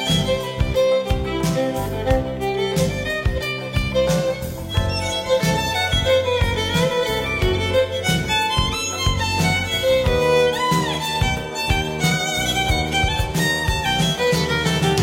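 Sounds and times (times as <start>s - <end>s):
gliding lead melody: 0.0s - 15.0s
music with steady beat: 0.0s - 15.0s.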